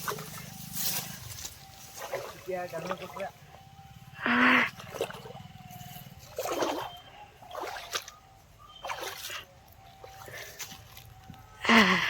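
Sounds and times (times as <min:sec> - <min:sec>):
feet wading through water: 0:00.0 - 0:11.2.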